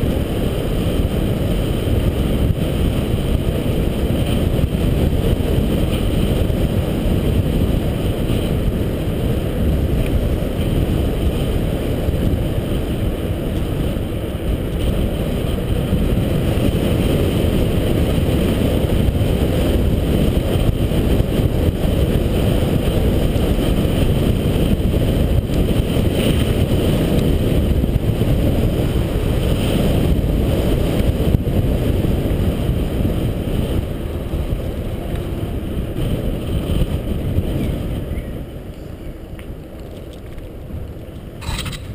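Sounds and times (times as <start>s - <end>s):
bike tyres rolling on tarmac: 0.0s - 41.9s
wind rumble on microphone: 0.0s - 41.9s.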